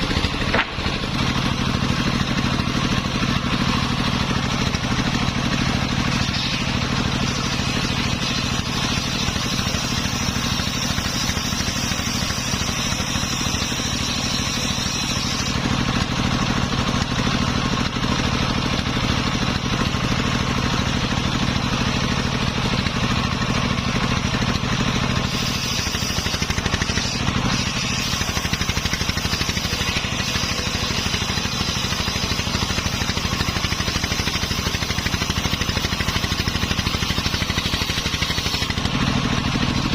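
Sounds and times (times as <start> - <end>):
high saw whine: 0.0 - 17.7, 18.3 - 39.9
engine running steadily: 0.0 - 39.9.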